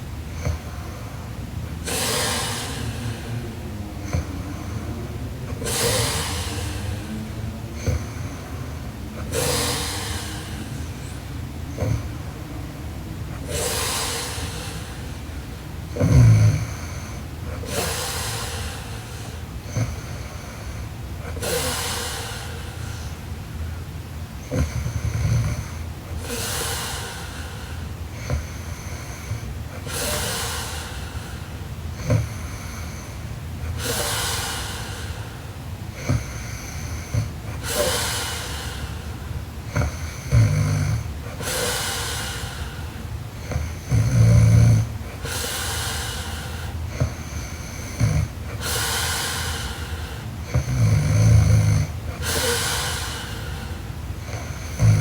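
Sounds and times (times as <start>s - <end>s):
woman snoring: 0.3s - 23.3s, 24.4s - 55.0s.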